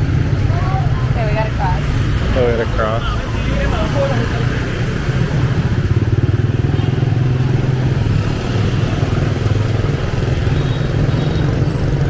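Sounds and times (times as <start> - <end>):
motorbikes passing: 0.0 - 12.0.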